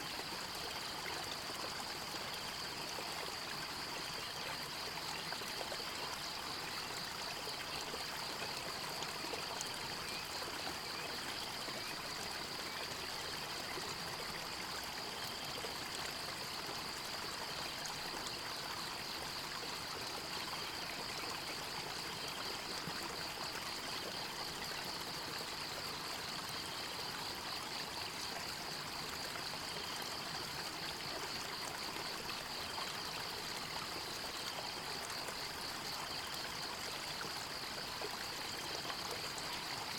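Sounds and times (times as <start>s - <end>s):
stream rushing and trickling: 0.0s - 39.9s.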